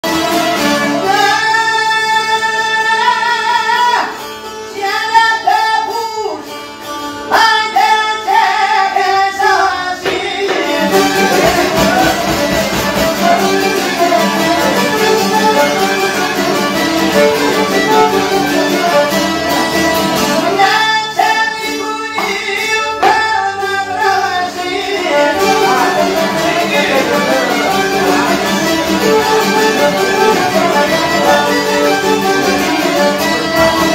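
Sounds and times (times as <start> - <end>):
folk tune on violin accordion lutes: 0.0 - 33.9.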